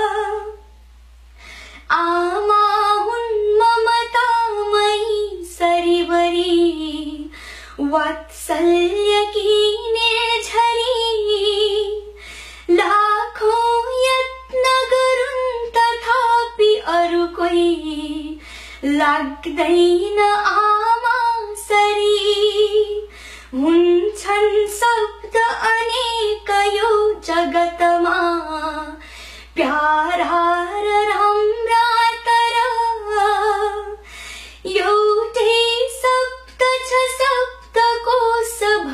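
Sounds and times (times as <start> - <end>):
woman singing unaccompanied: 0.0 - 0.7, 1.8 - 38.9.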